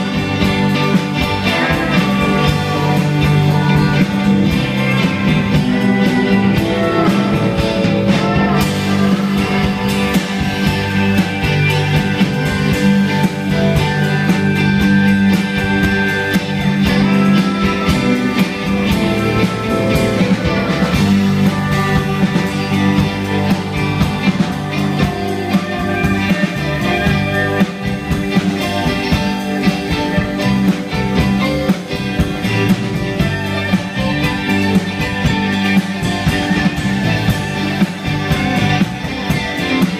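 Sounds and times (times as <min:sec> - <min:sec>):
drum kit beat: 0:00.0 - 0:39.9
electric bass: 0:00.0 - 0:39.9
organ keyboard: 0:00.0 - 0:39.9.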